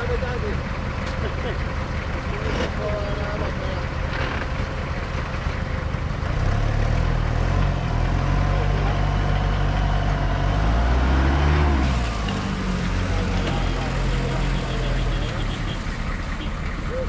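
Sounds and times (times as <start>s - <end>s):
vehicle engine running and revving: 0.0s - 17.0s.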